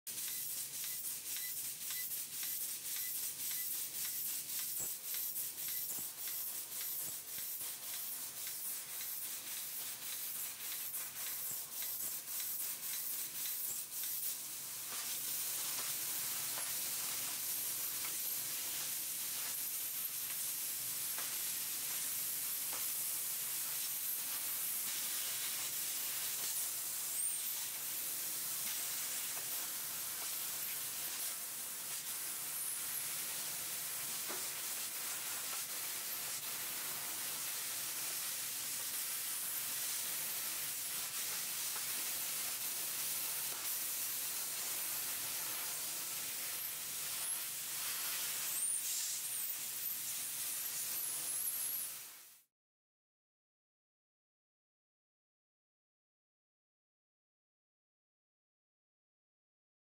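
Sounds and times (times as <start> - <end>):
laser cutter hissing on steel: 0.1 - 52.5.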